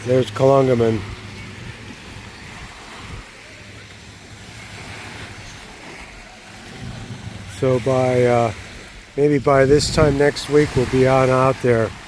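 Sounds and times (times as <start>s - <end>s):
sea surf washing on beach: 0.0s - 12.0s
wind buffeting microphone: 0.0s - 12.0s.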